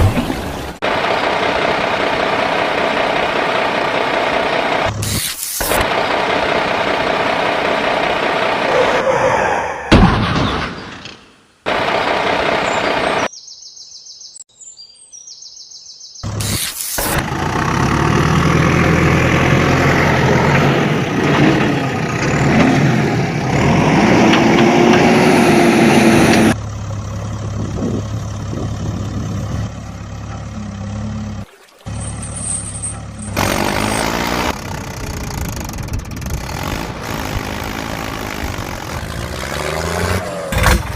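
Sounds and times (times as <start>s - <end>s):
truck engines revving: 0.0s - 13.3s, 16.2s - 40.9s.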